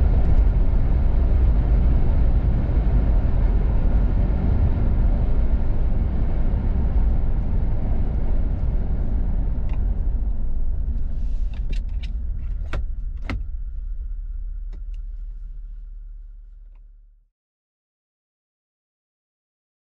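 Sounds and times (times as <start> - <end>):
diesel engine running: 0.0 - 17.1.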